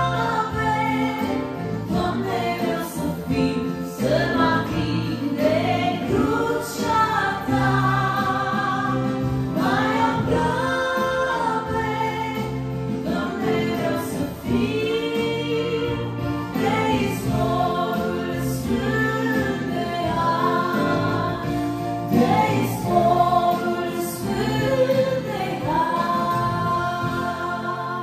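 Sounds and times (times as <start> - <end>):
keyboard accompaniment: 0.0 - 28.0
woman singing worship song: 0.0 - 28.0.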